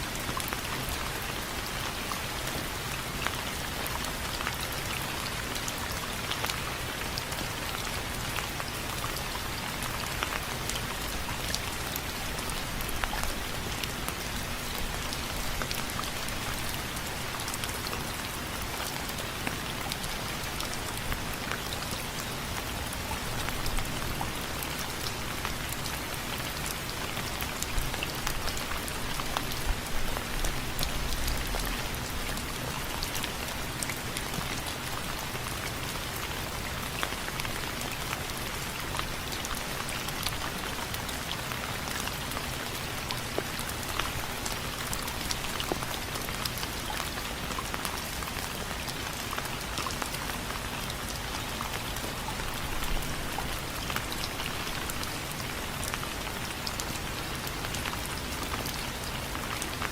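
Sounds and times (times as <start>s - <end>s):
rain on window frames: 0.1s - 59.9s.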